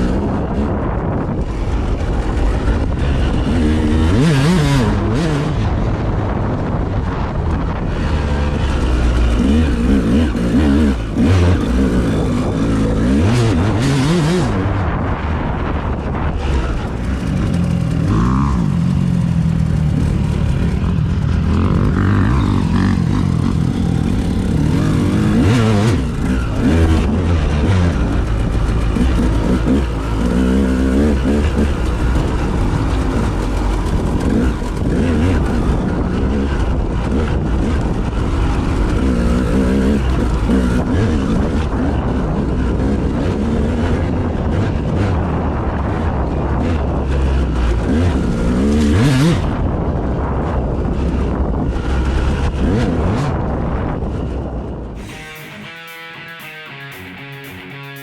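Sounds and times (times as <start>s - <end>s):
wind noise on microphone: 0.0s - 55.1s
vehicle engine running: 0.1s - 44.5s, 53.4s - 58.0s.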